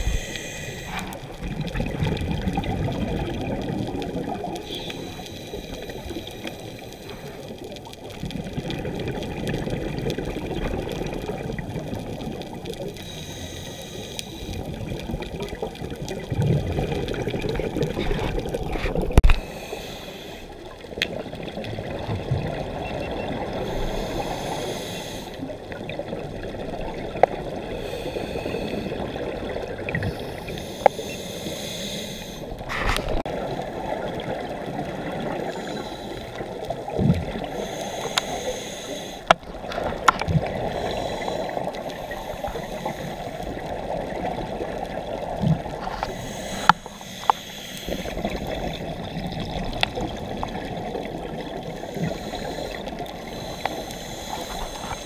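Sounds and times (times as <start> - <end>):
gurgling regulator bubbles: 0.0 - 55.0
muffled underwater rush: 0.0 - 55.0.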